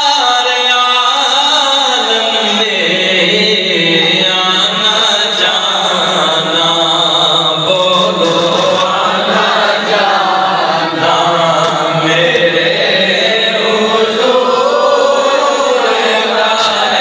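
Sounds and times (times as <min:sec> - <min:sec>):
devotional vocal chanting: 0:00.0 - 0:17.0.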